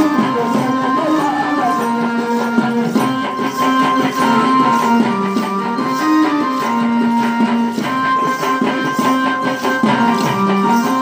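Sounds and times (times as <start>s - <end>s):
loud music with a steady beat: 0.0s - 11.0s.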